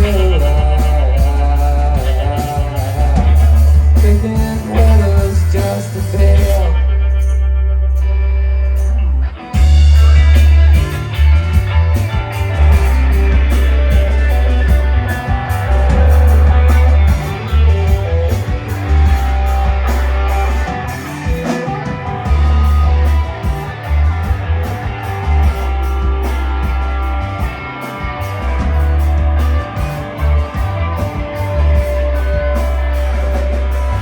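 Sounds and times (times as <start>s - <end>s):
heavy bass line: 0.0s - 34.0s
rock band playing instrumental: 0.0s - 34.0s.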